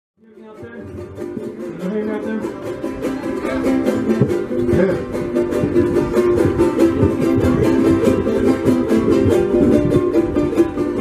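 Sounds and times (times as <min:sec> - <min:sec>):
strummed string instruments: 0:00.2 - 0:11.0.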